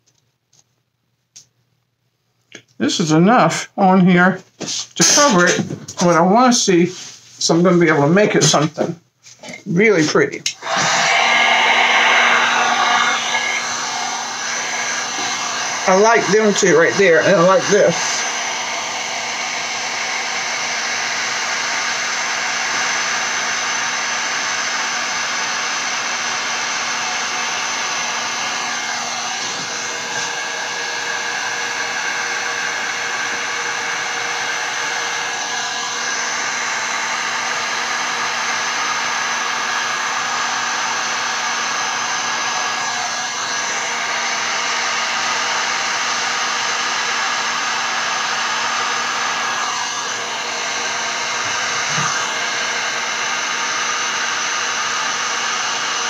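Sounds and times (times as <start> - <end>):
heat gun fan blowing: 10.5 - 56.0.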